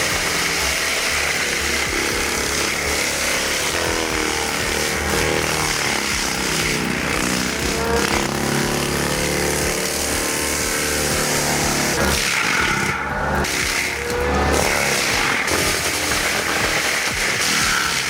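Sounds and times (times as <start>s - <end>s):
motor-driven machine running: 0.0s - 18.0s.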